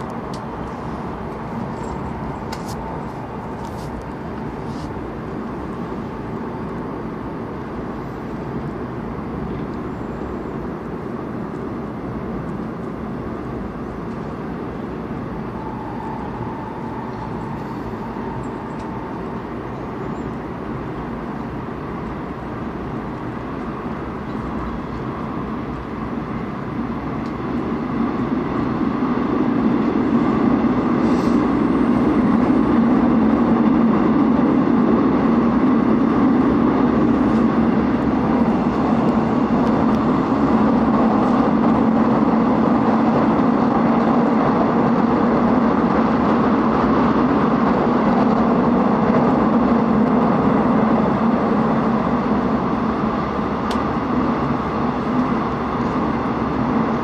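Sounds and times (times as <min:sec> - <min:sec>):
train rumble heard on board: 0:00.0 - 0:57.0.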